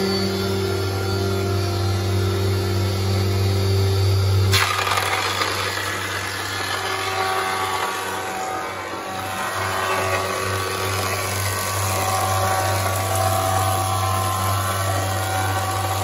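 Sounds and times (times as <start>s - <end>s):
cutter heads planing board: 0.0s - 16.0s
planer motor hum: 0.0s - 16.0s.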